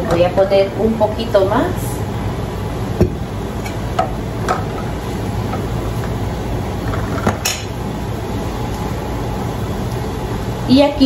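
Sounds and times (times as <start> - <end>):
kitchen stove humming: 0.0 - 11.0.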